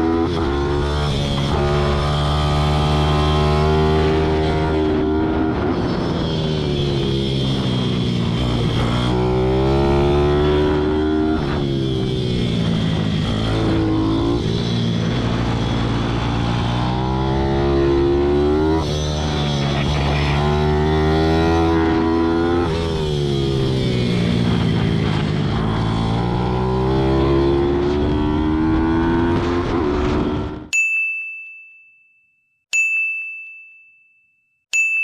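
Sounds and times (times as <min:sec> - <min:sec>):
motorbike engine accelerating: 0:00.0 - 0:30.7.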